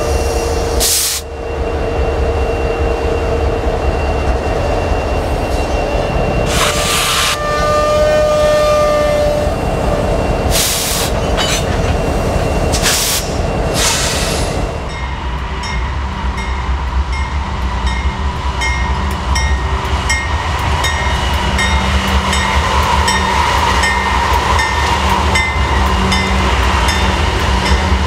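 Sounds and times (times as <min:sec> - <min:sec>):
diesel locomotives rumbling: 0:00.0 - 0:28.0.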